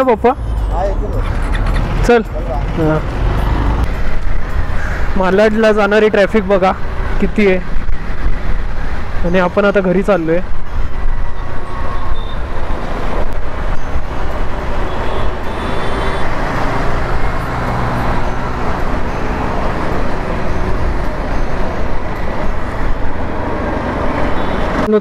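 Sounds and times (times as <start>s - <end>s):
motorcycle engine cruising: 0.0s - 9.6s, 10.2s - 24.9s
wind and road noise: 0.0s - 25.0s.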